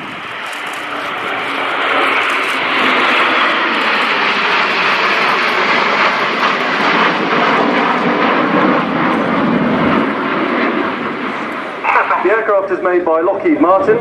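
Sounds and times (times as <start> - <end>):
jet engines flying past: 0.0 - 14.0.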